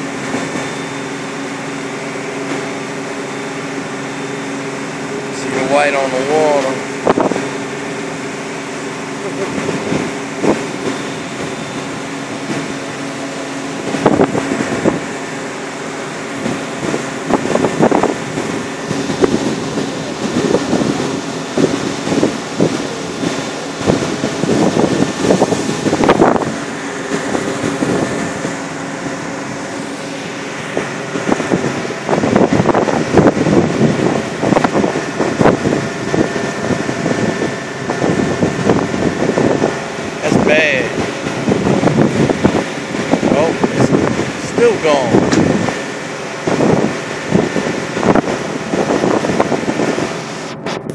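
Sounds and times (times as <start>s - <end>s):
boat engine droning: 0.0s - 50.9s
wind buffeting microphone: 0.0s - 50.9s.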